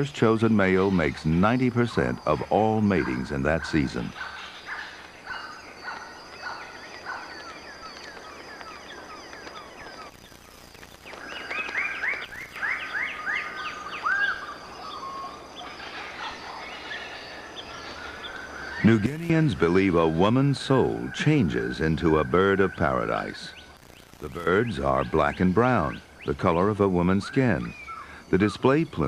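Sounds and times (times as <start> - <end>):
faint high insect whine: 0.0 - 29.0.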